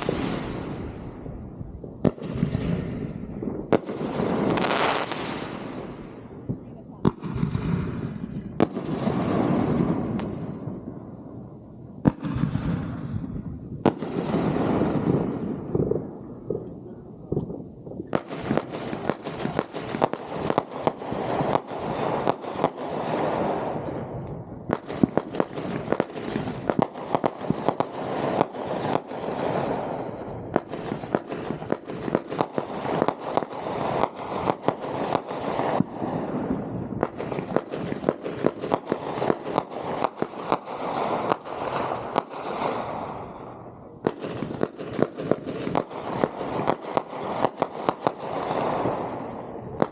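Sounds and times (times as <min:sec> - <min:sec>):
fireworks sharp shots: 0:00.0 - 0:49.9.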